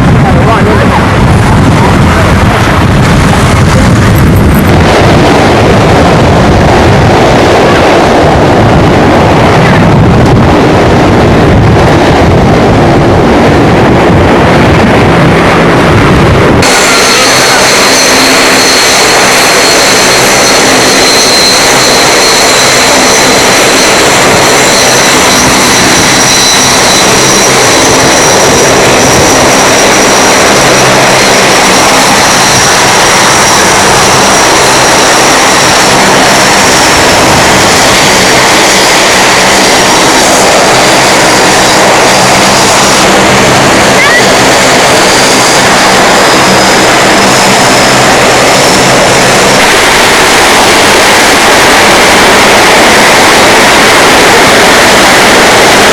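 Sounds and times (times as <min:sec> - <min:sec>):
fighter jet engines running: 0:00.0 - 0:55.9
high whining tones: 0:00.0 - 0:55.9.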